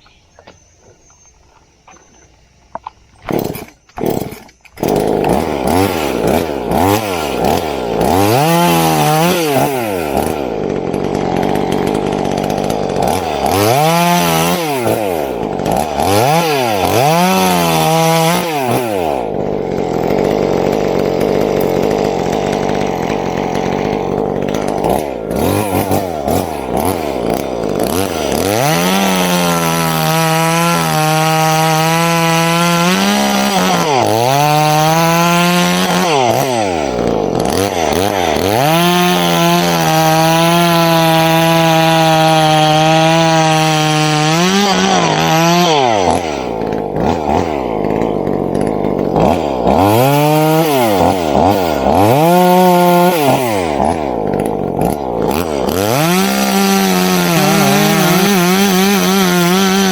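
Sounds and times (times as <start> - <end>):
chainsaw starter pulls: 1.5 - 59.9
chainsaw revving and cutting wood: 2.7 - 59.9.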